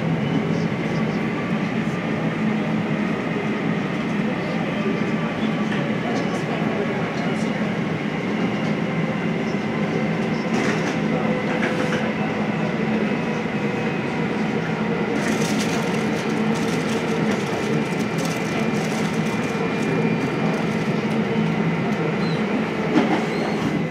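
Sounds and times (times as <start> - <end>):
jet engines idling: 0.0 - 23.9.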